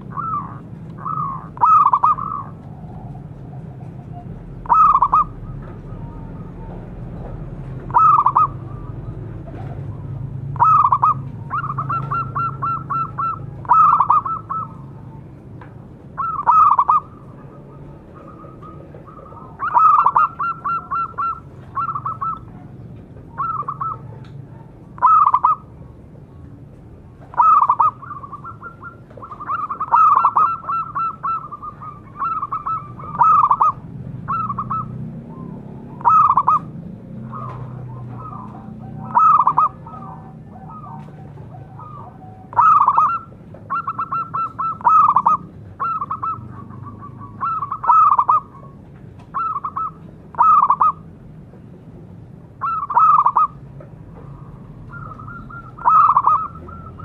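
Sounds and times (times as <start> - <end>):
dove cooing: 0.0 - 26.4, 27.0 - 51.1, 52.6 - 57.0.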